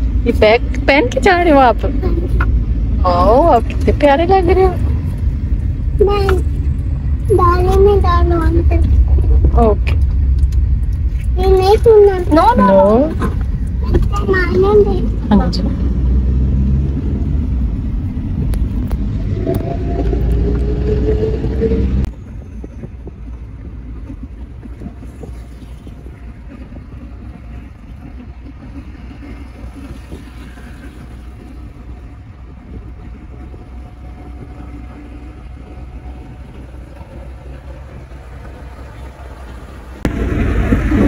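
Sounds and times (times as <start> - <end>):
car road noise rumble: 0.0 - 41.0.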